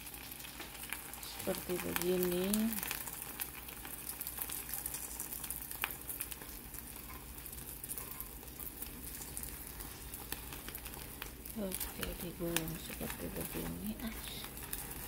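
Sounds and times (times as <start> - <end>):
flatbread sizzling in a pan: 0.0 - 15.0.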